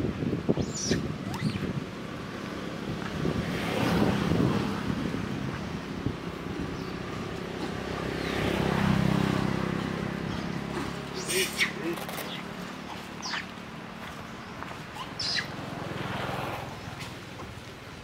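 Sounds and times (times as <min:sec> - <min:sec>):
vehicle engine passing: 0:02.1 - 0:17.2.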